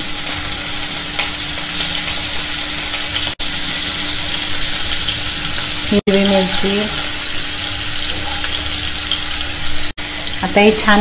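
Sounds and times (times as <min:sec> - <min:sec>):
ginger sizzling in hot oil: 0:00.0 - 0:11.0.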